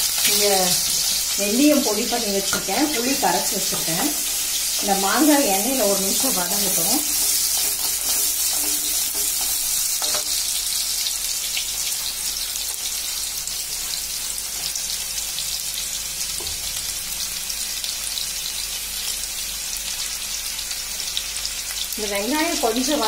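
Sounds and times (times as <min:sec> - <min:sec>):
oil sizzling with fine crackles: 0:00.0 - 0:23.0
onions frying: 0:00.0 - 0:23.0.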